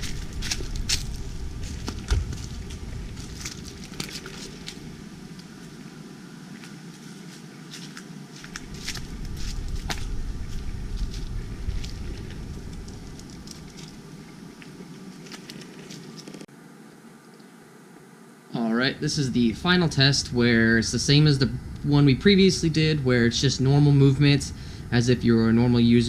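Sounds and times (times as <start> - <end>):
low outdoor rumble: 0.0 - 16.6, 17.7 - 26.0.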